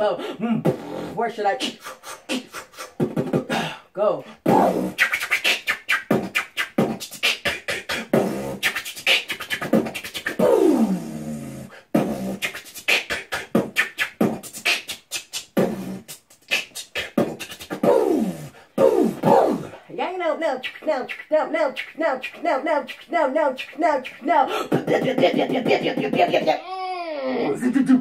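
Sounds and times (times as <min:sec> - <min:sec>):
person beatboxing: 0:00.0 - 0:26.6, 0:27.3 - 0:28.0.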